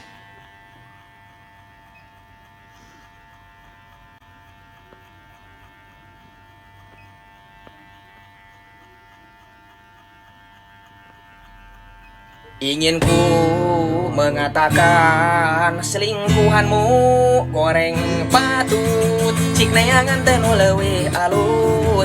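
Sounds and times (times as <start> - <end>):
electric hair clipper humming: 0.0 - 22.0.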